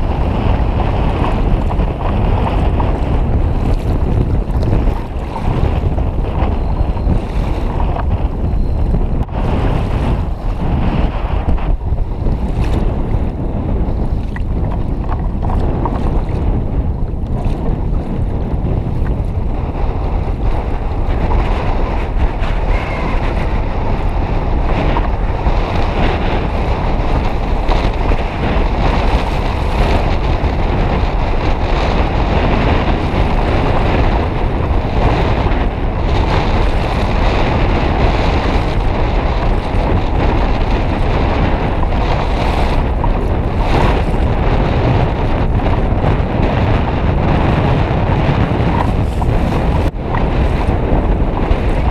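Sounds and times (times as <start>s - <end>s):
waves washing around kayak: 0.0s - 51.9s
wind buffeting microphone: 0.0s - 51.9s.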